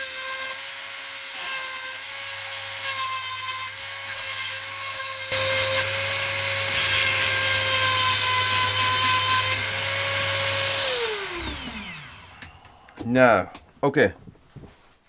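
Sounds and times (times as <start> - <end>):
rotary tool grinding: 0.0 - 13.2.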